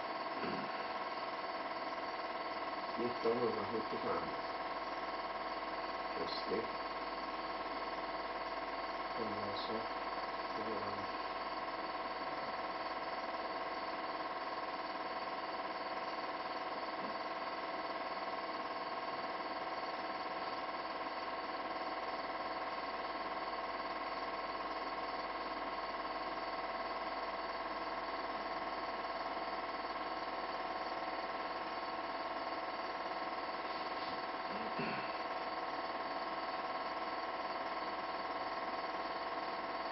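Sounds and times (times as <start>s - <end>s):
projector motor buzzing whine: 0.0s - 39.9s.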